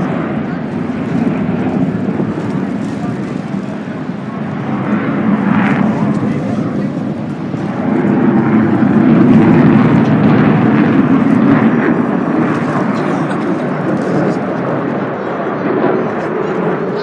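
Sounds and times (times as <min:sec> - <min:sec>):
plane flying past: 0:00.0 - 0:17.0.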